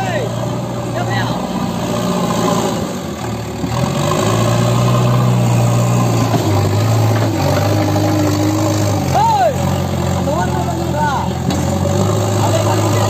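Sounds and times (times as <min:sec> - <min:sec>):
backhoe diesel engine running: 0:00.0 - 0:13.0.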